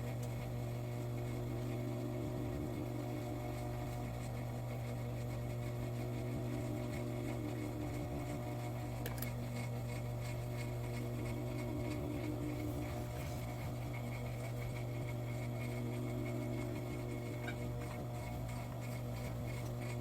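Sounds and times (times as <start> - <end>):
sewing machine running: 2.4 - 20.0.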